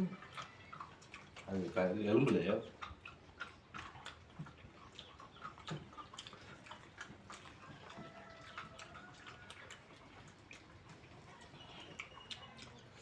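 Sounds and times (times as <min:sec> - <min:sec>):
chewing and gnawing bones: 0:00.0 - 0:13.0.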